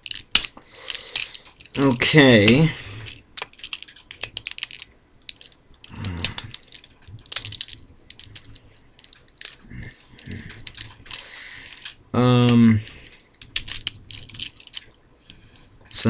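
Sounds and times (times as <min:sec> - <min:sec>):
plastic toy parts clicking: 0:00.0 - 0:15.0.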